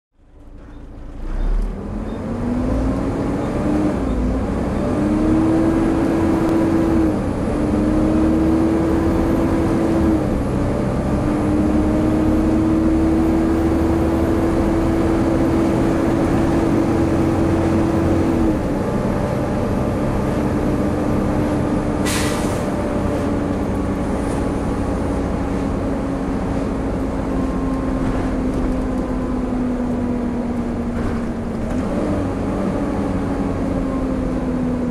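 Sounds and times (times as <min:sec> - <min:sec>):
bus engine and cooling fan roaring: 0:00.2 - 0:34.9.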